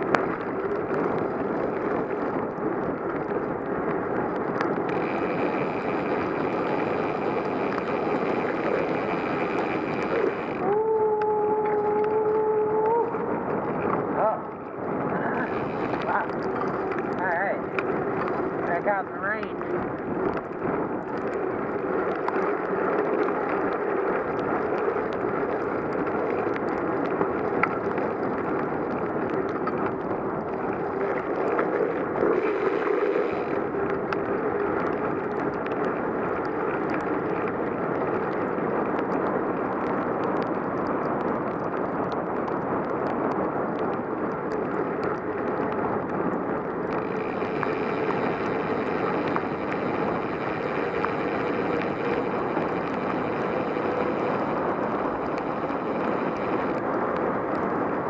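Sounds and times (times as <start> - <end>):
bicycle tyres hissing on wet road: 0.0 - 58.0.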